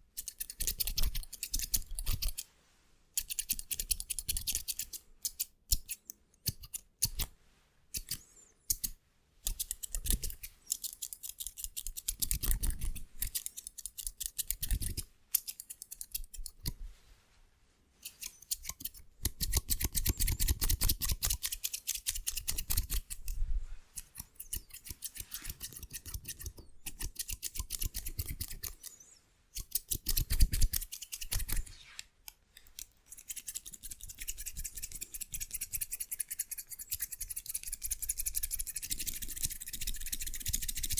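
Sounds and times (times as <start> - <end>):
scissors snipping hair: 0.2 - 2.4, 3.2 - 7.3, 8.0 - 16.8, 18.0 - 23.4, 24.0 - 29.0, 29.6 - 40.9.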